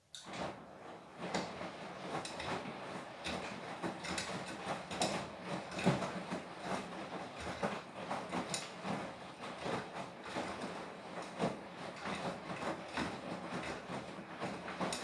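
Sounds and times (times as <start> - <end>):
washing machine drum tumbling laundry: 0.1 - 15.0.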